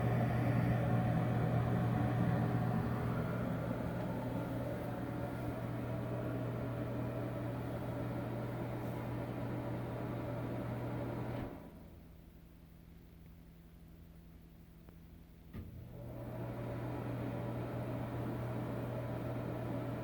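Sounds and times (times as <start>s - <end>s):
exhaust fan motor humming: 0.0s - 20.0s.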